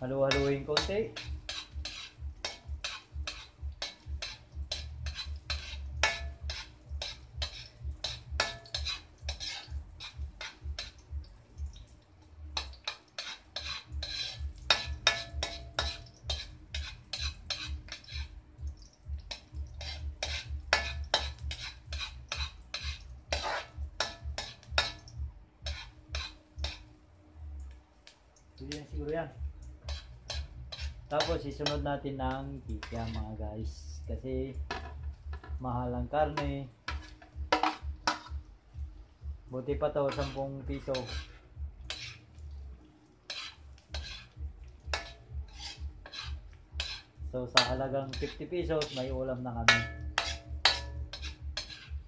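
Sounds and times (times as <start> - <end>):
metal spatula scraping a wok: 0.0 - 11.2, 12.5 - 27.0, 29.8 - 34.0, 34.6 - 35.6, 36.3 - 38.5, 39.8 - 42.6, 43.2 - 52.0.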